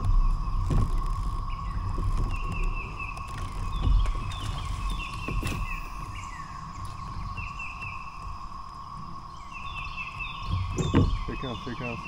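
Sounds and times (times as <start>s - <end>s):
cicada chorus drone: 0.0s - 12.0s
songbird chirping: 0.0s - 12.0s.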